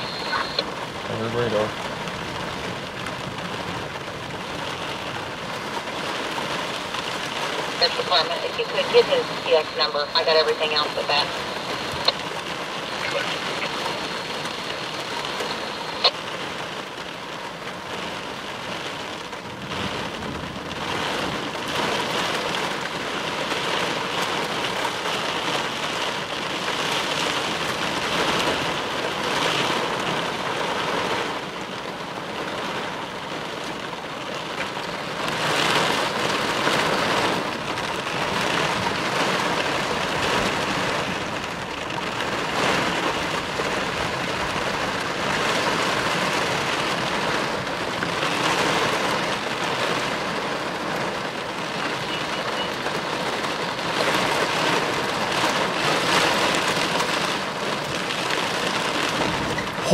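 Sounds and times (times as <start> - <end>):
heavy rain pounding on car roof: 0.0 - 59.9.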